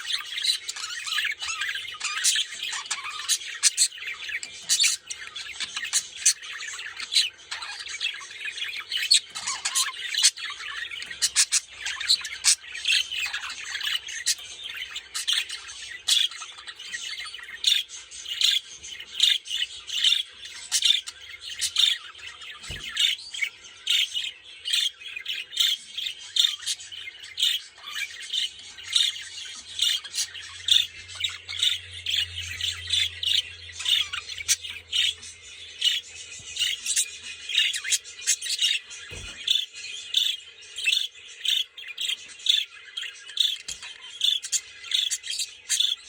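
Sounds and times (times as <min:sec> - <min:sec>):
budgerigars chattering: 0:00.0 - 0:46.0.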